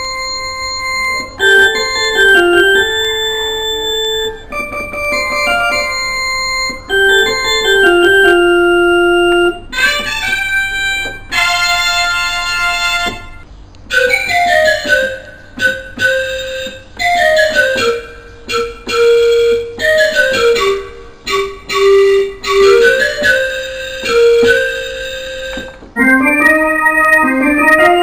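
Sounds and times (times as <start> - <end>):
electronic keyboard melody: 0.0 - 28.0.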